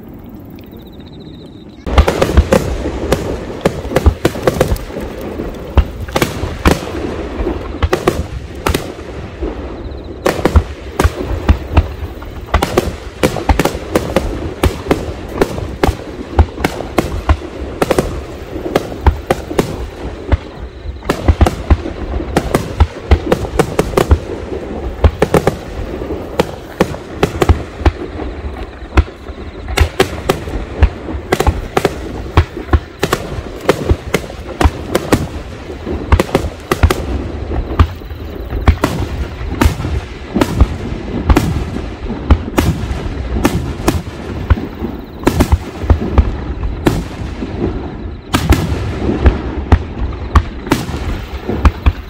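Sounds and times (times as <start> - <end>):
fireworks bangs and crackles: 1.4 - 52.0.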